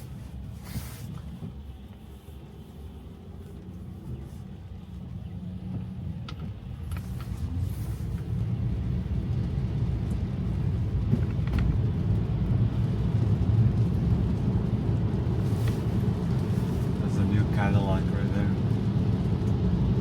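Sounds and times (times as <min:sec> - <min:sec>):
tyre and road noise: 0:00.0 - 0:20.0.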